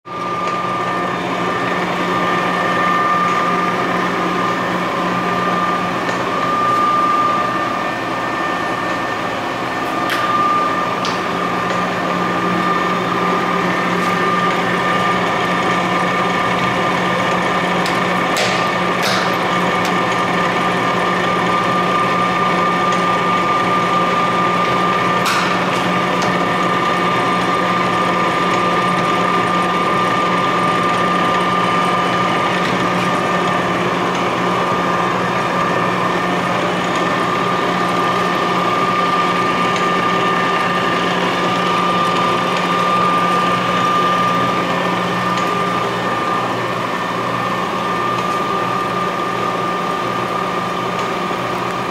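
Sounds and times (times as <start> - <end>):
lathe running with gear whine: 0.1 - 51.9.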